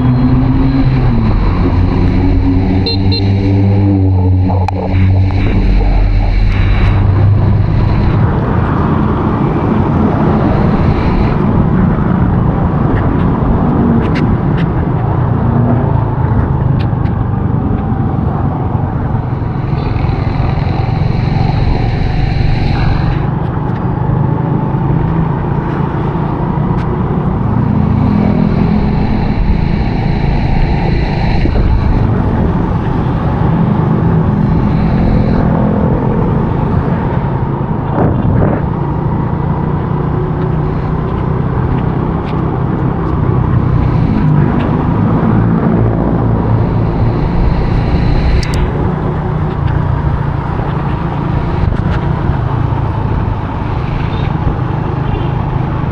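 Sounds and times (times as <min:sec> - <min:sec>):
wind and road noise: 0:00.0 - 0:55.9.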